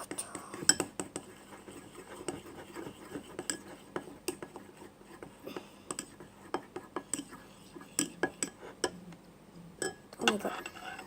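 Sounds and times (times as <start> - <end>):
utensil stirring thick glue: 0.0 - 9.0, 9.8 - 11.0
utensil tapping bowl sides: 0.1 - 9.0.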